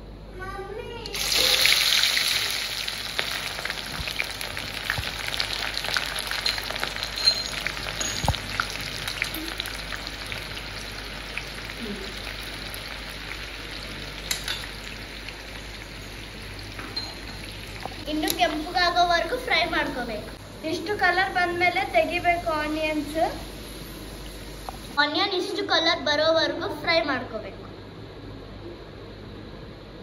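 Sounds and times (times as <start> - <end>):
onions deep-frying in oil: 1.0 - 25.2.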